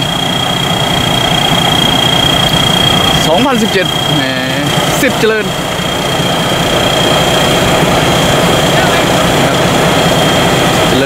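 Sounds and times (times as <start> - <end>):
combine harvester running: 0.0 - 11.0
high-pitched whine: 0.0 - 11.0.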